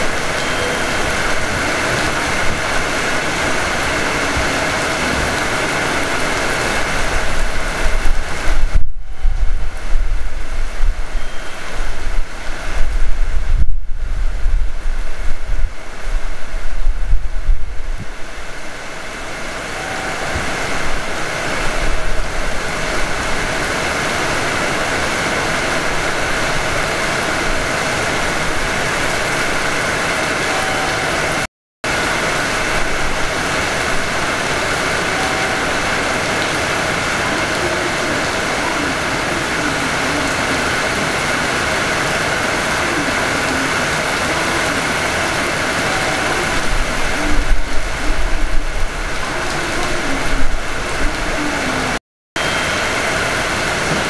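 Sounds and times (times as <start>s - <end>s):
electric train rumbling: 0.0s - 13.5s, 14.1s - 54.0s.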